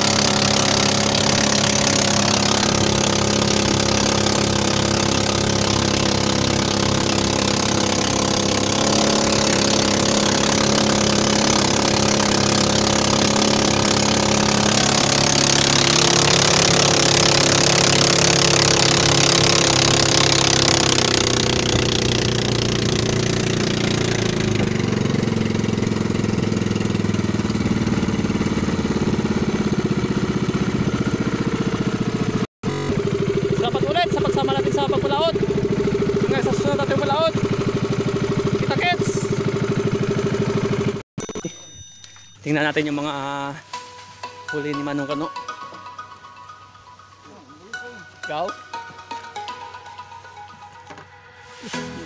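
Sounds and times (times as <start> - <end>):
small boat engine running: 0.0 - 42.3.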